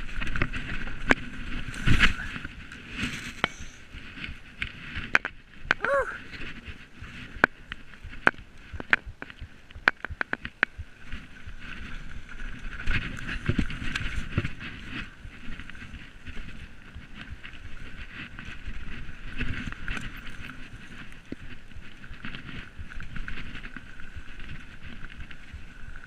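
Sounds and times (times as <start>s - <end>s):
bike rattling: 0.0s - 26.0s
bike tyres on dirt: 0.0s - 26.0s.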